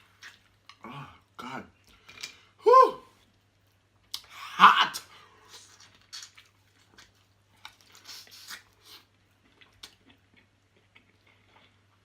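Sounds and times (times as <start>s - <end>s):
person chewing: 0.0s - 2.5s, 3.2s - 4.4s, 5.0s - 12.0s.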